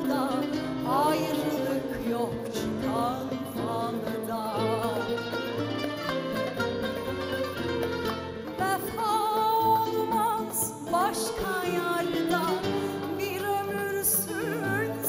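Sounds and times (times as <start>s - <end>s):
woman singing: 0.0s - 6.1s, 8.4s - 15.0s
bowed strings: 0.0s - 15.0s
plucked strings: 0.0s - 15.0s.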